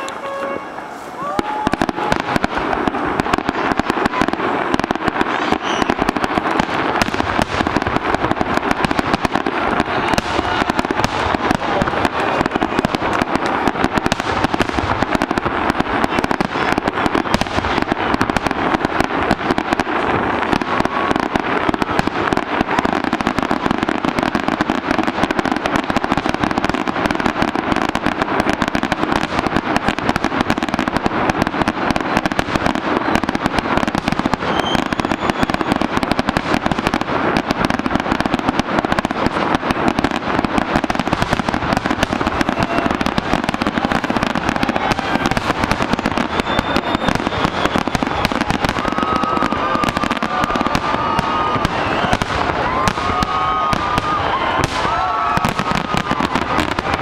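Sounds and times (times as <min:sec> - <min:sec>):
fireworks bursts and crackling: 0:00.0 - 0:57.0.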